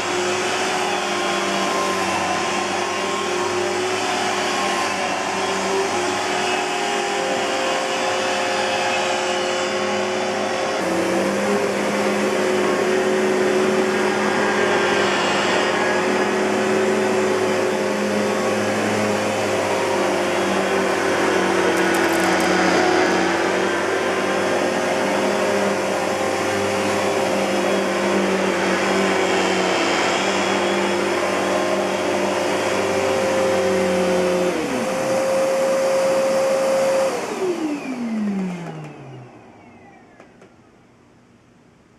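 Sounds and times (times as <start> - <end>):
vacuum cleaner motor whining: 0.0 - 40.9.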